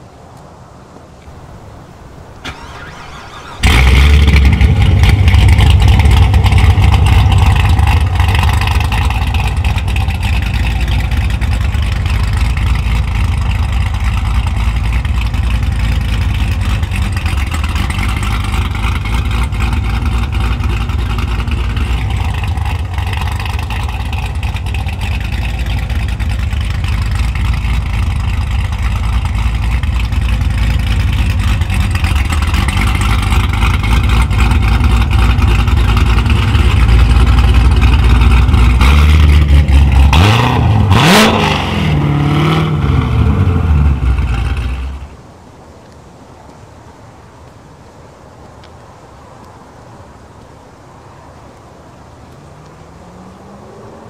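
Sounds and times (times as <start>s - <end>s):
car engine starting and running: 1.4s - 45.2s, 52.2s - 54.0s.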